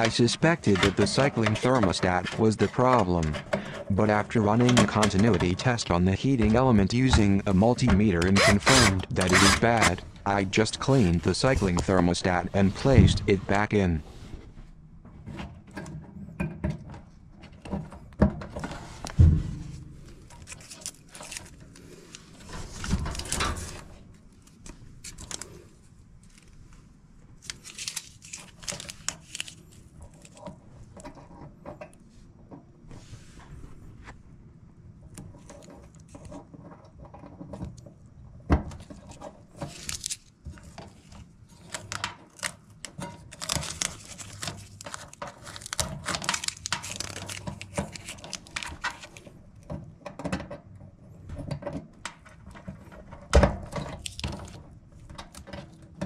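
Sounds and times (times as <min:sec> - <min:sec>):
rustling and crinkling handling: 0:00.0 - 0:16.1, 0:17.4 - 0:34.2, 0:35.0 - 0:50.2, 0:51.4 - 0:56.0.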